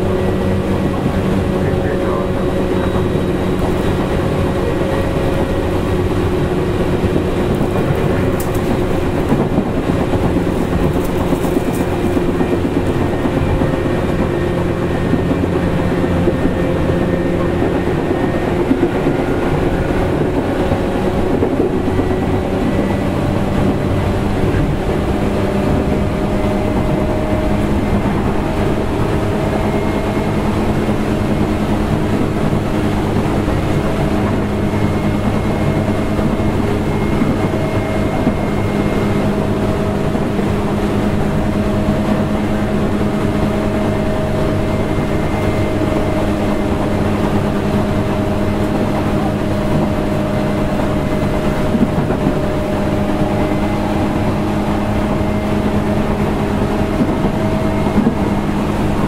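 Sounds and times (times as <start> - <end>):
traction motor hum: 0.0 - 59.0
wheels rumbling on rails: 0.0 - 59.0.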